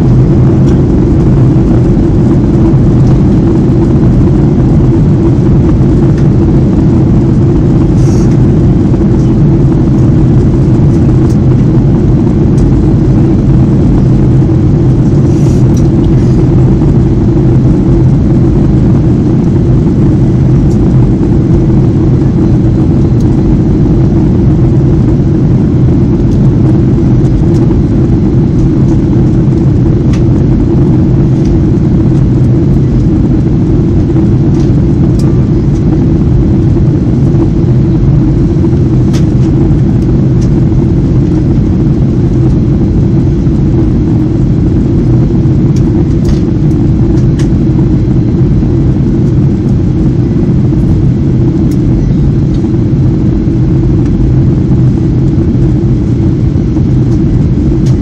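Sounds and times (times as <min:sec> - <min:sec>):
air rushing along fuselage: 0:00.0 - 0:58.0
jet engine drone: 0:00.0 - 0:58.0
low cabin hum: 0:00.0 - 0:58.0.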